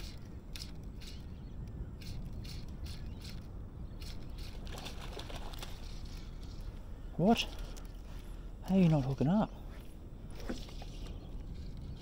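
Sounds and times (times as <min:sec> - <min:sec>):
wind rumble on microphone: 0:00.0 - 0:07.2, 0:09.5 - 0:12.0.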